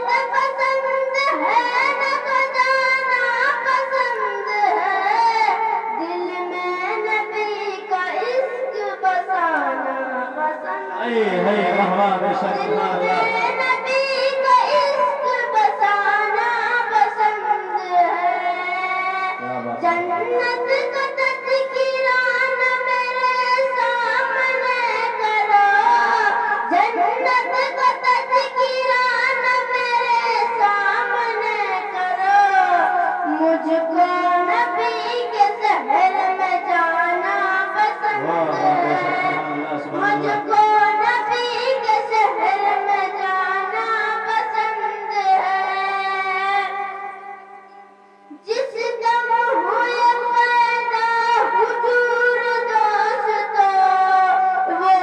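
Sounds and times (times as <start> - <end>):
boy singing into a microphone: 0.0 - 55.0.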